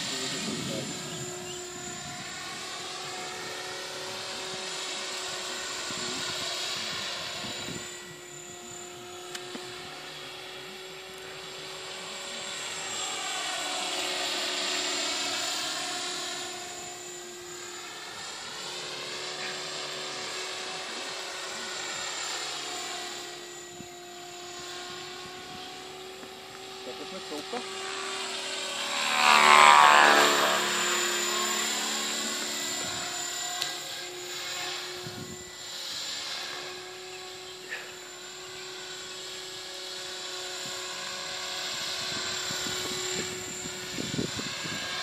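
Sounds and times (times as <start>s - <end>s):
model helicopter motor whine: 0.0s - 45.0s.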